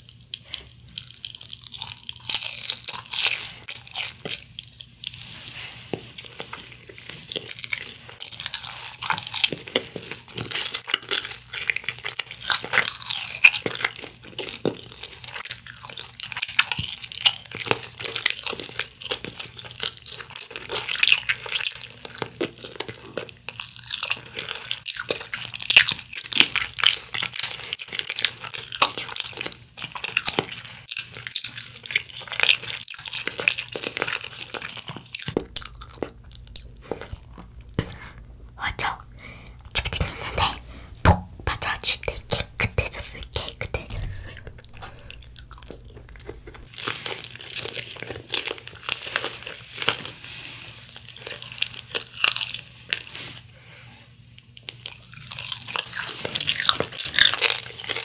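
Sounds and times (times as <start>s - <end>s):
crunching crispy fried chicken: 0.0s - 38.2s, 44.8s - 58.0s.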